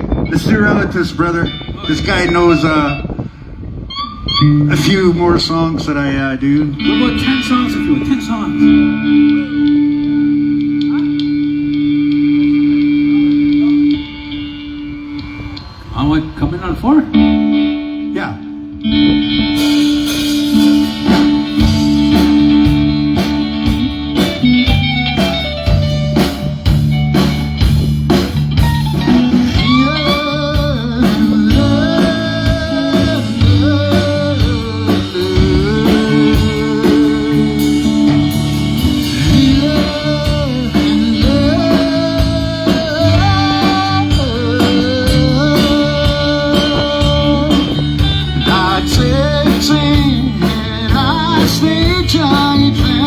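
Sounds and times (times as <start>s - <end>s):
live blues-rock band: 0.0s - 15.9s, 17.1s - 53.0s
lead guitar with bent notes: 0.0s - 53.0s.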